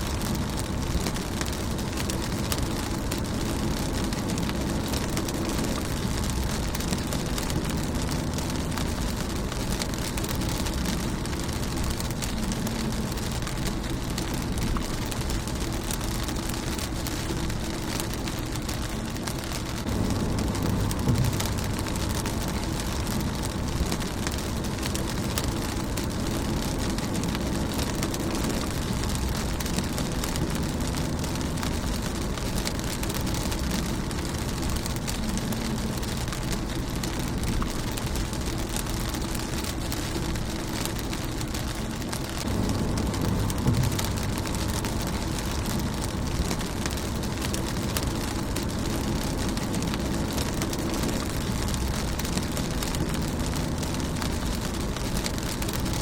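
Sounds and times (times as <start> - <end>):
low rumble: 0.0 - 56.0
rain pattering on a car: 0.0 - 56.0.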